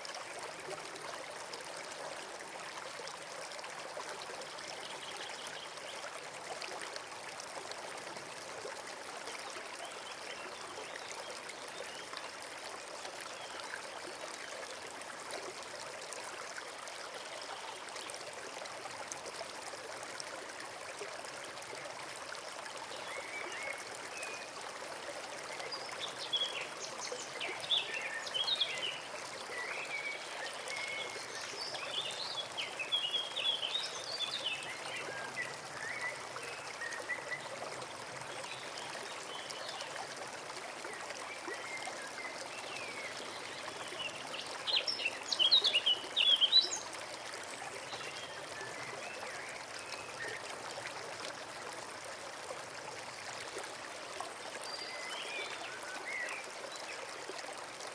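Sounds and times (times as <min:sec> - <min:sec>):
stream running: 0:00.0 - 0:57.9.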